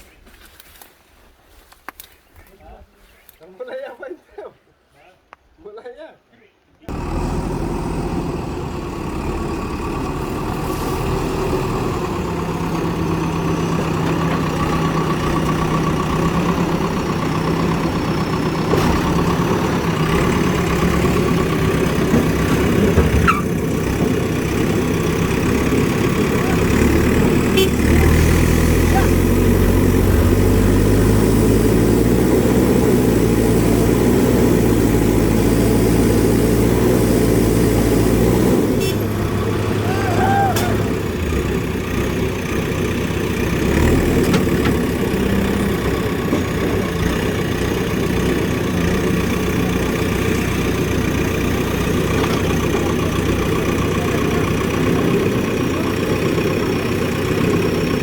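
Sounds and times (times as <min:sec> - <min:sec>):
heavy diesel engine running: 0:06.9 - 0:58.0.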